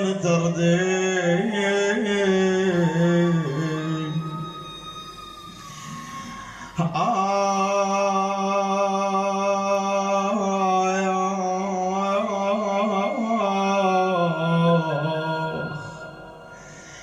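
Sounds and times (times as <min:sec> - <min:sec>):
man singing long mournful note: 0:00.0 - 0:04.7, 0:06.8 - 0:17.0.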